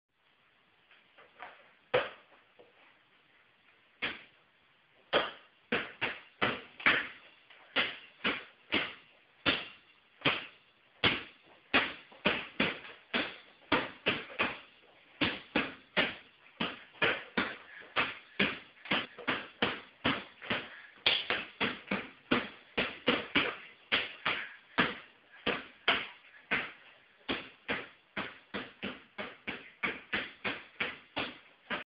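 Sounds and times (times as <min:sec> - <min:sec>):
basketball bouncing on tiled floor: 0:05.1 - 0:07.2, 0:07.8 - 0:31.9.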